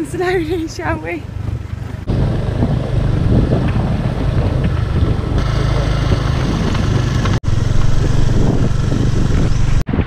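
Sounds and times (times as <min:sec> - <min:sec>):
motor scooter engine running: 0:00.5 - 0:09.8.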